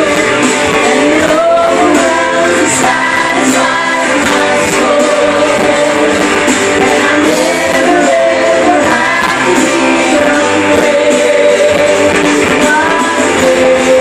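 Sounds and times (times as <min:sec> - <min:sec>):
woman singing lead: 0:00.0 - 0:14.0
worship band music: 0:00.0 - 0:14.0.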